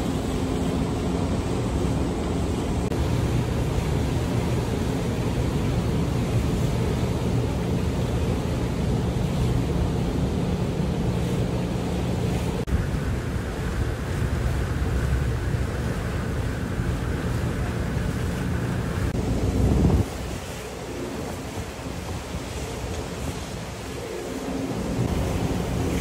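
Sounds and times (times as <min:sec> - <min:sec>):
ferry engine humming: 0:00.0 - 0:26.0
water rushing past hull: 0:00.0 - 0:26.0
wind on microphone: 0:00.0 - 0:26.0.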